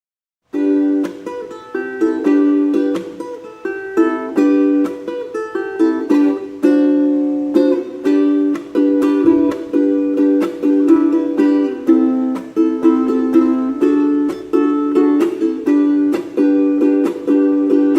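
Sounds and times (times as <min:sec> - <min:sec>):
ukulele melody: 0:00.5 - 0:17.9.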